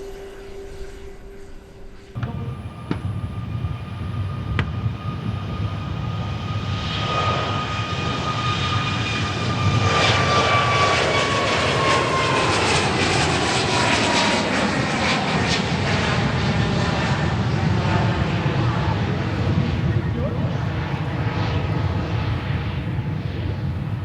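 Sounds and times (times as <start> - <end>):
high fan whine: 0.0 - 24.0
jet engine roar: 0.0 - 24.0.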